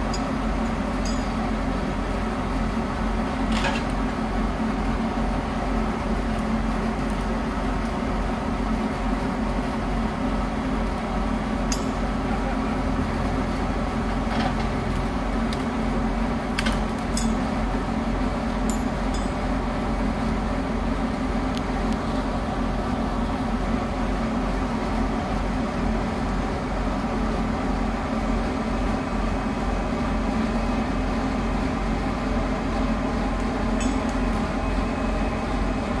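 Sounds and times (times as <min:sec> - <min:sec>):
heavy diesel machinery drone: 0:00.0 - 0:36.0.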